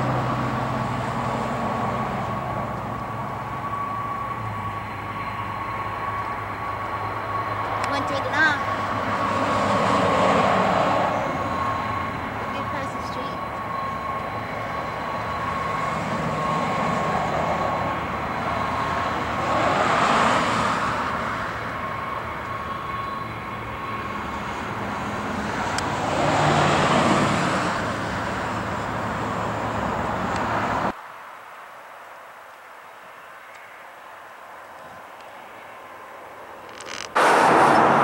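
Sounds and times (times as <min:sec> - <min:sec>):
jet engines whining and roaring: 0:00.0 - 0:31.0, 0:33.0 - 0:38.0.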